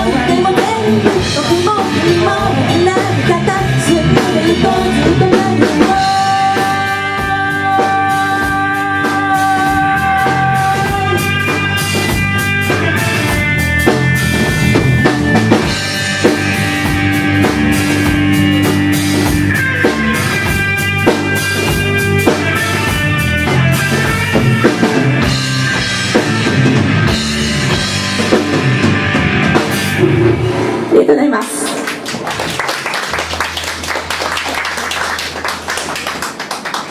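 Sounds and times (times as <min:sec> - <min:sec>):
drum kit: 0:00.0 - 0:36.9.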